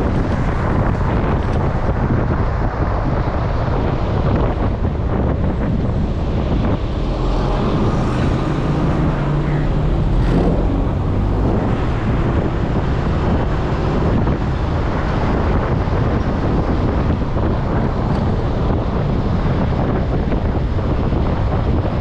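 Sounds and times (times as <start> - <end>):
vehicle engine drone: 0.0 - 22.0
wind buffeting microphone: 0.0 - 22.0.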